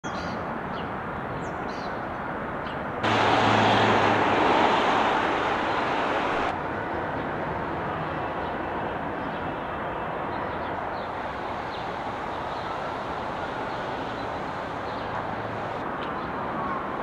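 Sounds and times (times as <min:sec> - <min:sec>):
traffic: 0:00.0 - 0:17.0
wind: 0:00.0 - 0:17.0.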